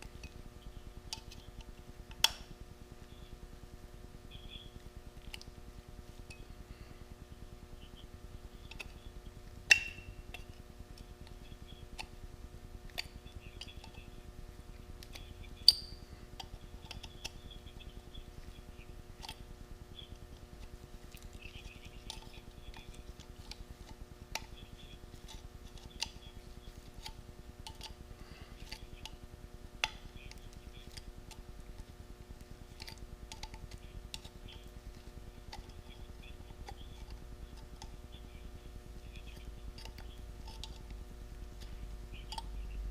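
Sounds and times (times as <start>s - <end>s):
steady hum: 0.0s - 42.9s.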